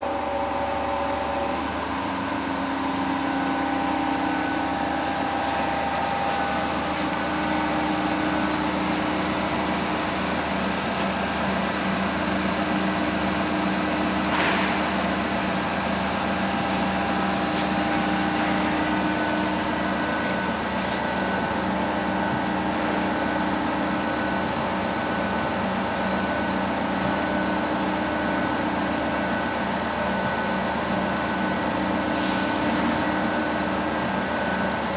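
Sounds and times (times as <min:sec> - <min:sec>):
grinding machine humming: 0:00.0 - 0:34.9
high-pitched machine whine: 0:00.0 - 0:34.9.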